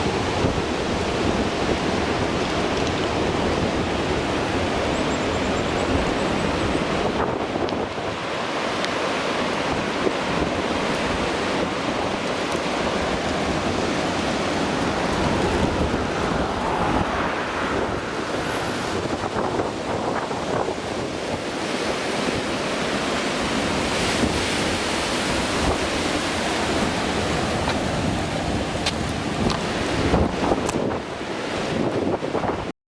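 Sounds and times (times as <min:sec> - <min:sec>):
strong wind rushing: 0:00.0 - 0:08.7, 0:09.4 - 0:32.7
wind buffeting microphone: 0:00.0 - 0:32.7.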